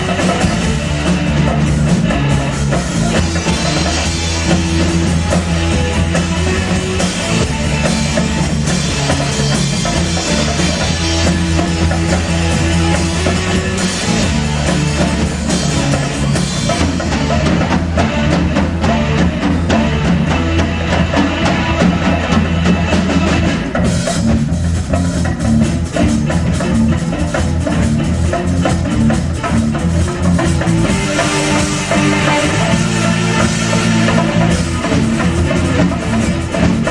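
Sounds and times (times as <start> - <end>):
instrumental rock music: 0.0 - 36.9.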